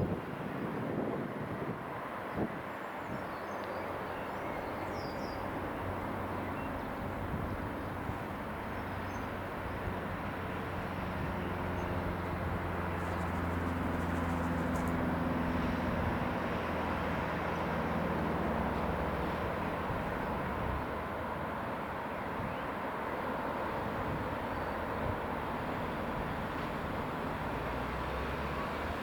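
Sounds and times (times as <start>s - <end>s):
light aircraft engine droning: 0.0s - 29.0s.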